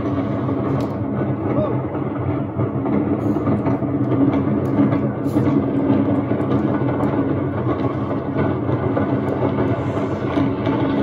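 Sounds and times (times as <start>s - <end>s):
roller coaster train rumbling: 0.0s - 11.0s.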